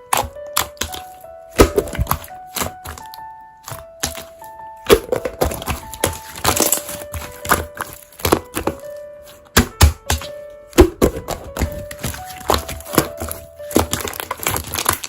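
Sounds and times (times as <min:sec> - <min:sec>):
slime squishing with clicks and pops: 0:00.0 - 0:15.0
soft background music: 0:00.0 - 0:15.0.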